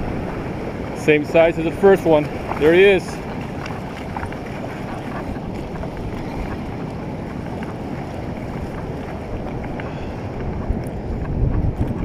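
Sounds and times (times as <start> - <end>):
shallow surf washing: 0.0 - 12.0
wind noise on microphone: 0.0 - 12.0.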